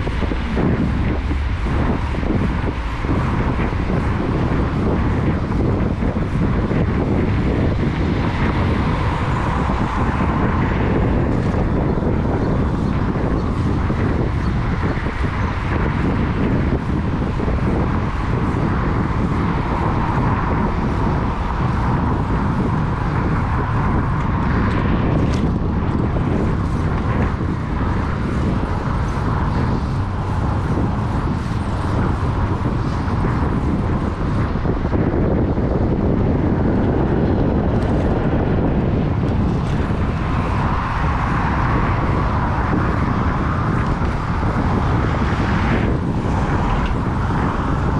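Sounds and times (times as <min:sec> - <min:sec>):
traffic: 0:00.0 - 0:47.9
wind and road noise: 0:00.0 - 0:47.9.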